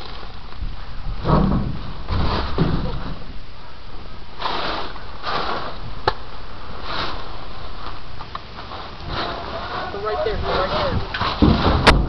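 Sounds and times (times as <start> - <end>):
rustling at microphone: 0.0 - 12.0.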